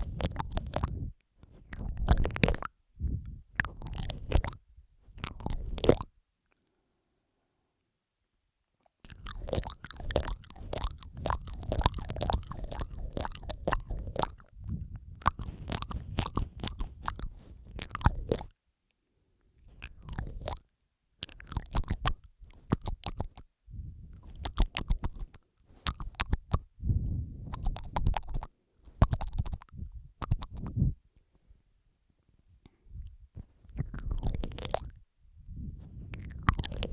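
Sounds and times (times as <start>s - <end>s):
wet lip and tongue clicks: 0.0s - 6.8s, 8.8s - 18.6s, 19.6s - 31.0s, 32.6s - 36.9s.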